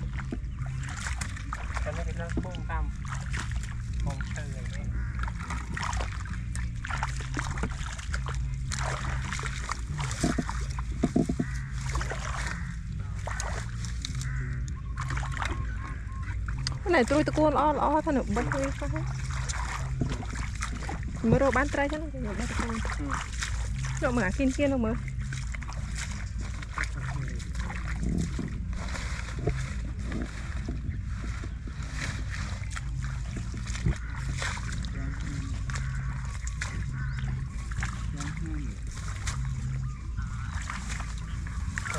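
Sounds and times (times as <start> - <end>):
steady low hum: 0.0 - 41.9
steady low rumble: 0.0 - 41.9
water splashing and sloshing: 0.0 - 41.9.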